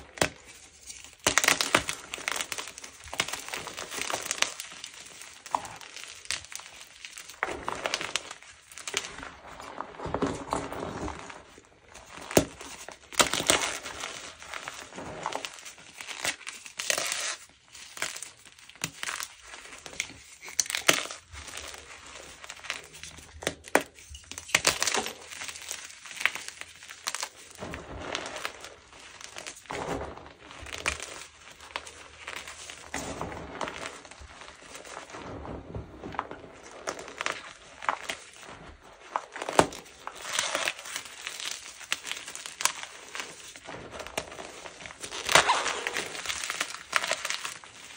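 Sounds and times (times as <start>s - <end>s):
chalk crunching and crackling: 0.0s - 47.9s.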